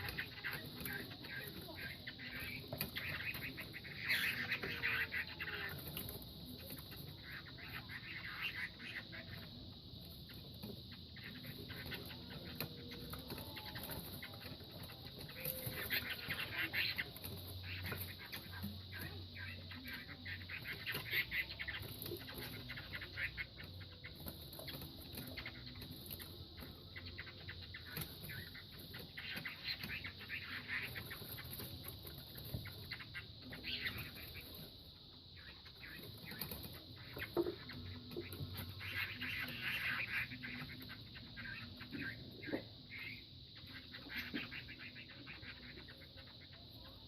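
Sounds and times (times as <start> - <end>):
birds chirping rapidly: 0.0 - 47.0
birds scuffling and rustling: 0.0 - 47.0.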